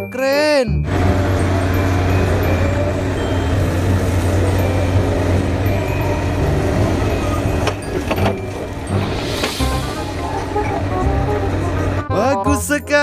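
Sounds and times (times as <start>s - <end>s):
diesel engine droning: 0.8s - 13.0s.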